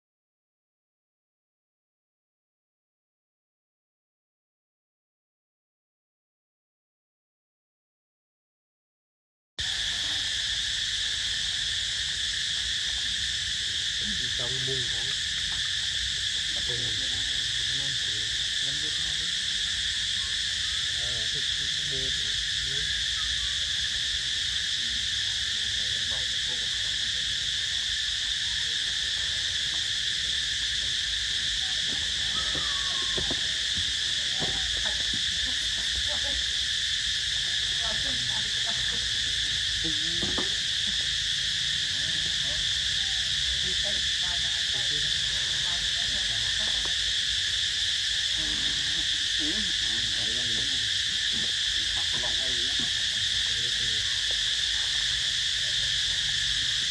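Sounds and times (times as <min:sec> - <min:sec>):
insect chorus drone: 0:09.6 - 0:56.9.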